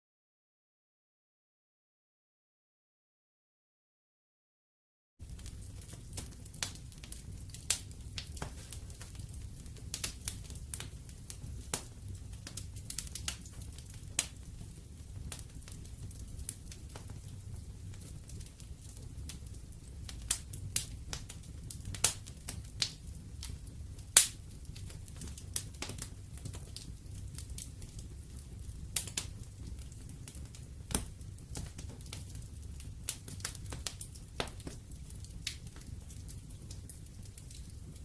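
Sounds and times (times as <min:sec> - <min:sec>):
wood fire crackling and popping: 0:05.2 - 0:38.0.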